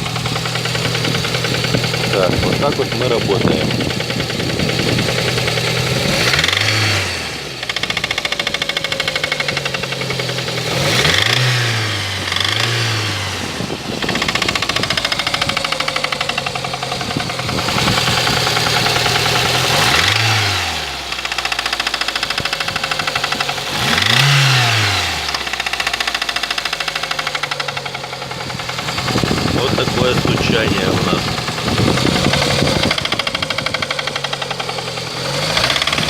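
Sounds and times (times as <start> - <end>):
car engine idling and revving: 0.0 - 36.0
fast even engine knocking: 0.0 - 36.0.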